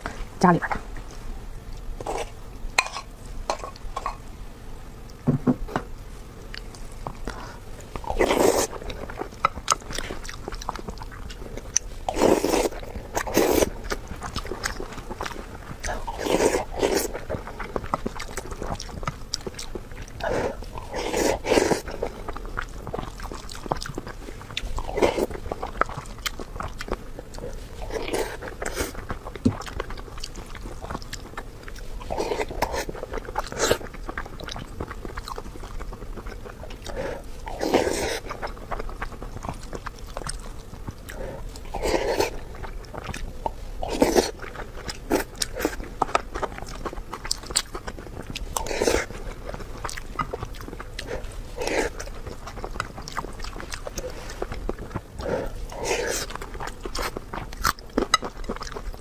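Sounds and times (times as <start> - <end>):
person chewing food: 6.4 - 59.0.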